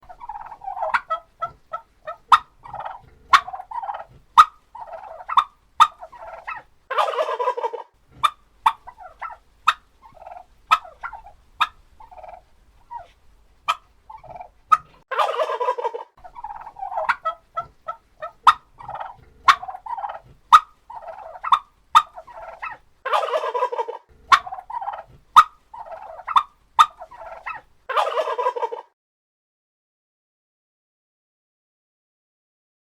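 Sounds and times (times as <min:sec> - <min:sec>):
turkey chirps and clicking calls: 0:00.0 - 0:28.9
turkeys gobbling: 0:00.0 - 0:28.9.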